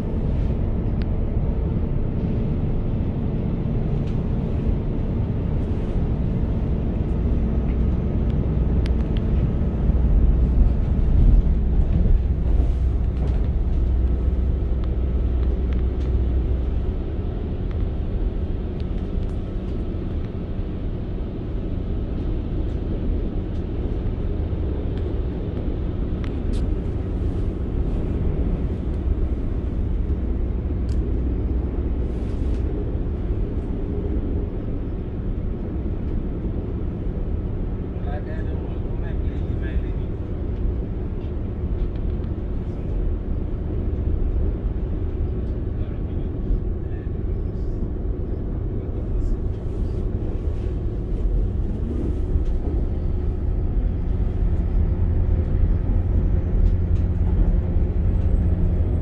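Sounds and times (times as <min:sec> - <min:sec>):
train engine and wheels rumbling: 0:00.0 - 0:59.0.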